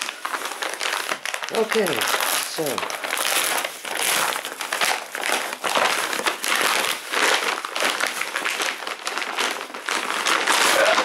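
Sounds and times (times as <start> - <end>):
padded envelope crinkling: 0.0 - 11.0.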